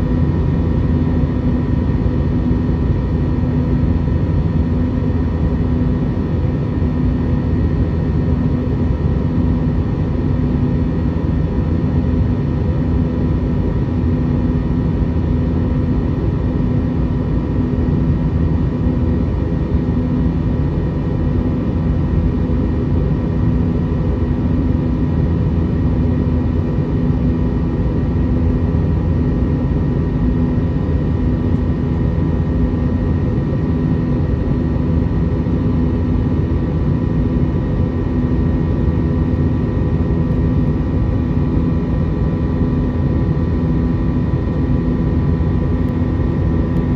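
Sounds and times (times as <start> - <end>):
airliner cabin engine roar: 0.0 - 46.9.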